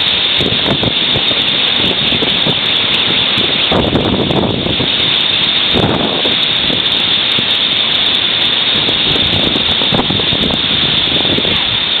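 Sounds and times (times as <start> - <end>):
storm wind gusting: 0.0 - 12.0
wind buffeting microphone: 0.0 - 12.0.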